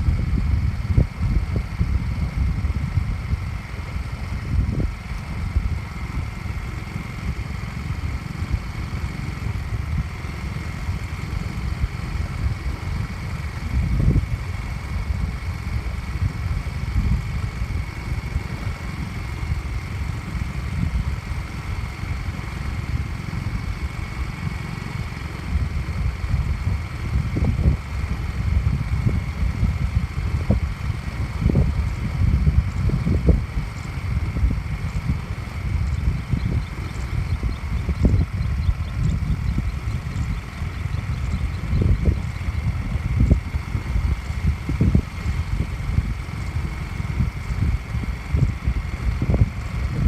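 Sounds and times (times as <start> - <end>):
faint steady whine: 0.0 - 50.0
vehicle road and engine noise: 0.0 - 50.0
wind buffeting microphone: 0.0 - 50.0.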